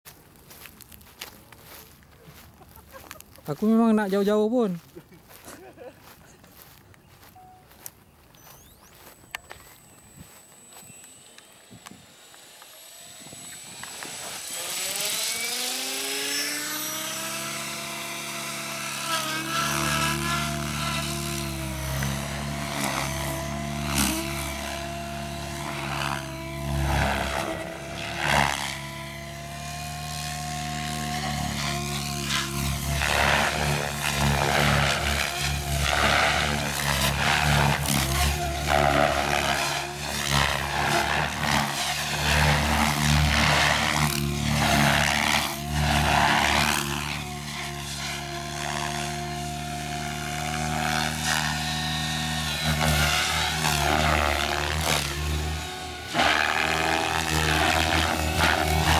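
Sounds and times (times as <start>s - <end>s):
model helicopter rotor whine: 7.2s - 58.9s.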